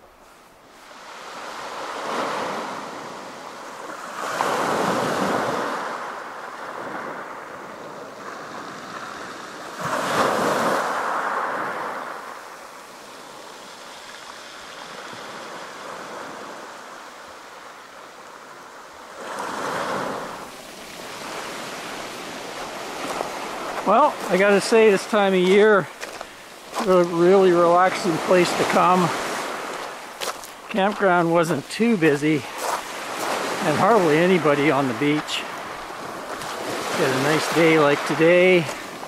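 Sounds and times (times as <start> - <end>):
waves washing over pebble beach: 0.8 - 18.0, 19.1 - 39.0.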